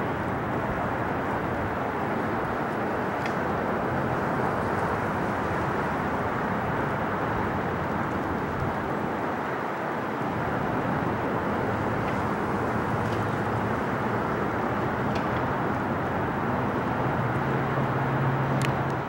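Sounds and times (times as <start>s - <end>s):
wind noise: 0.0s - 19.0s.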